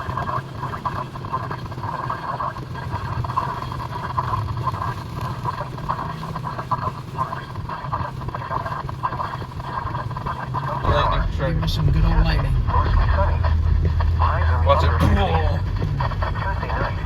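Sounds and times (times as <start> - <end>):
car road and engine noise: 0.1 - 17.0.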